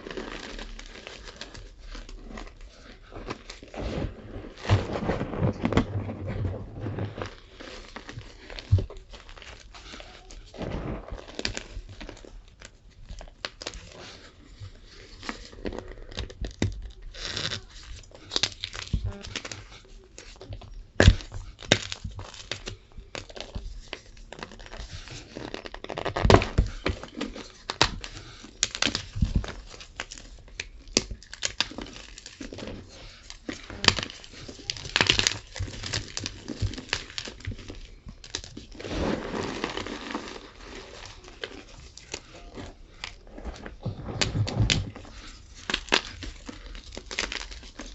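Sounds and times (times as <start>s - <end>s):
chalk crunching and crackling: 0.0s - 47.9s.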